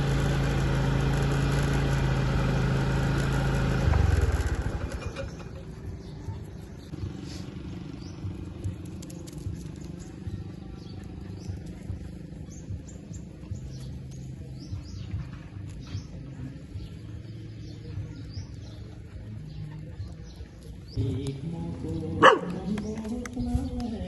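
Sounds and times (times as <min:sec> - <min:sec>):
small birds chirping: 0:04.2 - 0:24.0.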